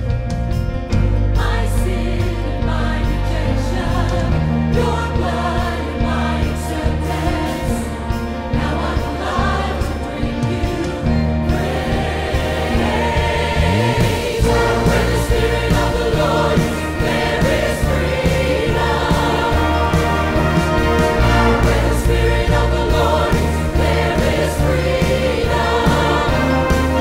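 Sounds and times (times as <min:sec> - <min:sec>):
instrumental accompaniment: 0:00.0 - 0:27.0
choir singing a hymn: 0:01.0 - 0:27.0.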